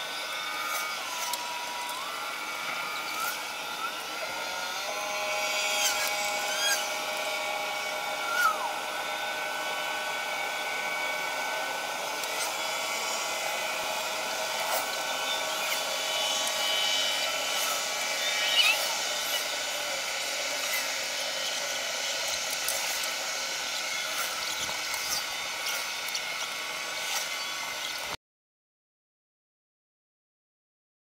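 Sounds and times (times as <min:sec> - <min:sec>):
small electric motor whirring: 0:00.0 - 0:28.2.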